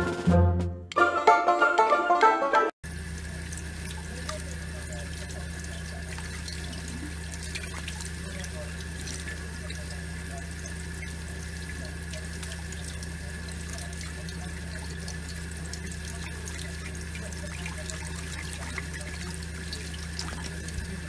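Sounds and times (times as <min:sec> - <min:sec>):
water splashes and drips: 0:02.8 - 0:21.0
steady low hum: 0:02.9 - 0:21.0
tap water running into sink: 0:02.9 - 0:21.0.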